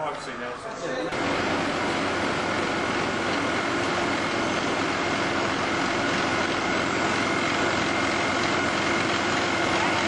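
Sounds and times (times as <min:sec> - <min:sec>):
helicopter whine: 0:00.3 - 0:10.0
helicopter engine and rotor drone: 0:01.1 - 0:10.0.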